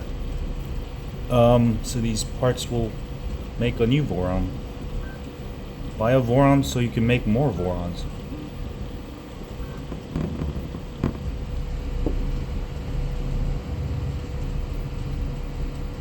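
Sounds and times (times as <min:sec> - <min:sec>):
stepper motors humming: 0:00.0 - 0:16.0.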